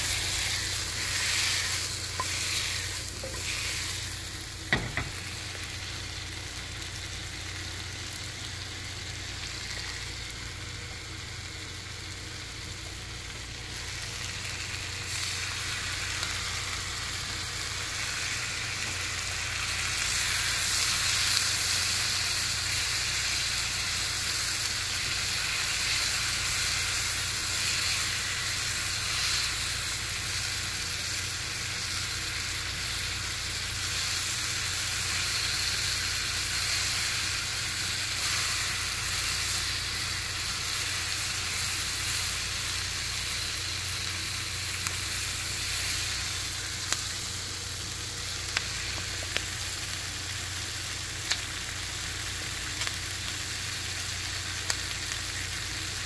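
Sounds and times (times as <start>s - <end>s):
onions sizzling in a pan: 0.0s - 56.0s.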